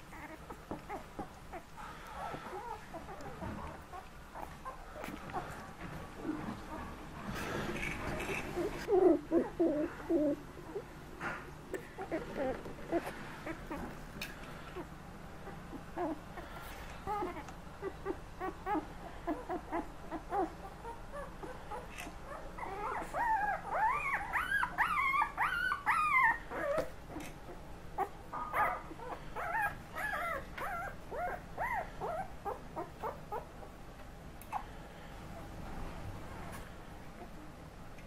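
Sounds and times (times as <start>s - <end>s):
puppies whimpering and squeaking: 0.0s - 7.0s, 7.6s - 10.9s, 11.8s - 33.8s.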